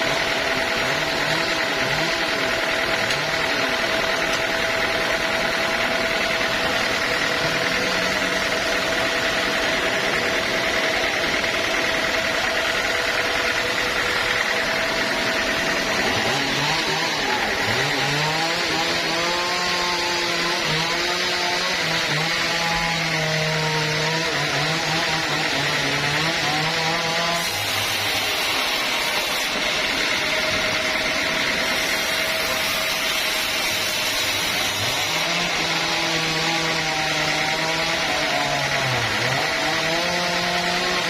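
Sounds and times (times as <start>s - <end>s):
motor pitch rising and falling: 0.0s - 41.0s
sawmill saw and motor noise: 0.0s - 41.0s.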